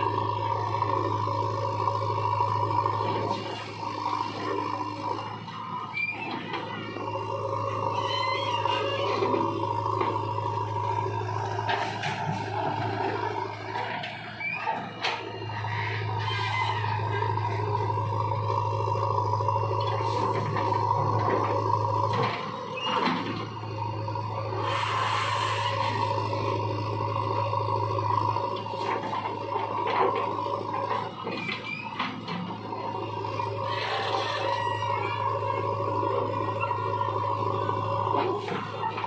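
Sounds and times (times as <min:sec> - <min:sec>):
backhoe diesel engine humming: 0:00.0 - 0:39.0
tractor diesel engine running: 0:00.0 - 0:39.0.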